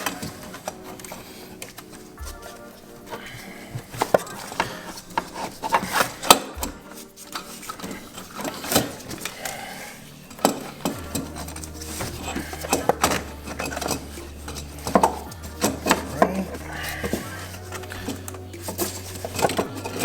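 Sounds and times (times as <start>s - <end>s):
pipe clicking and rubbing: 0.0s - 20.0s.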